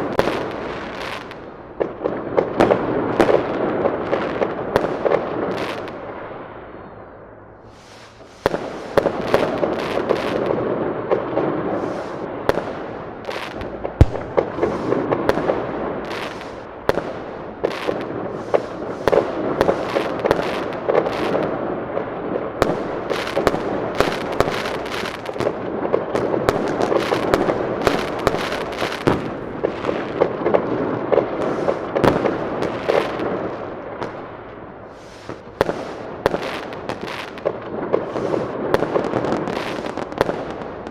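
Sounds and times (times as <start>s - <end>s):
fireworks crackling hiss: 0.0s - 6.7s, 7.6s - 40.9s
fireworks bangs and cracks: 0.0s - 6.9s, 7.6s - 40.9s.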